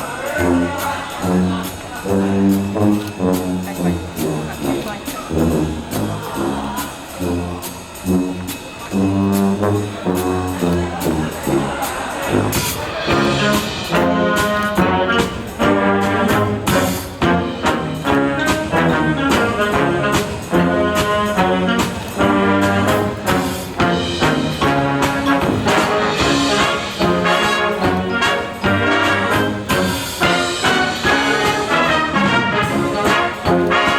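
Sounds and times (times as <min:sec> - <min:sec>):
marching drums beat: 0:00.0 - 0:33.9
trumpets and trombones: 0:00.0 - 0:33.9.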